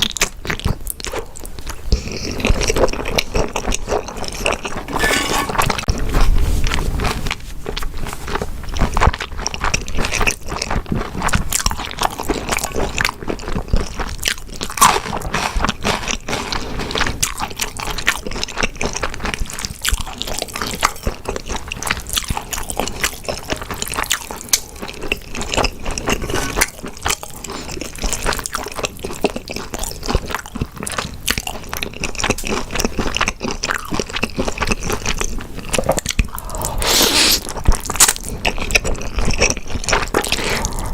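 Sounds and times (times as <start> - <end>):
person chewing and biting: 0.1 - 40.9.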